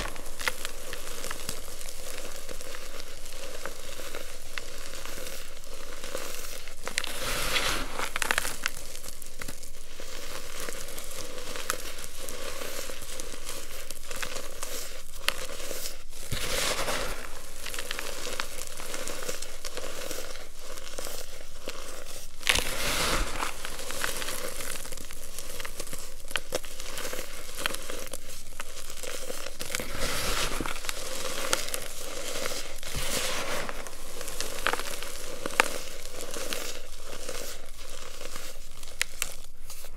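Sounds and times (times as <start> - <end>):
hands crushing powder blocks: 0.0 - 39.9.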